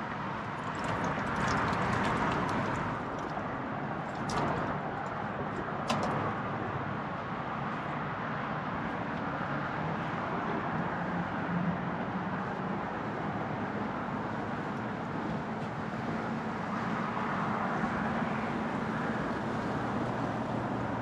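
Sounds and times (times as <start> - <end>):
traffic crossing a bridge: 0.0 - 21.0.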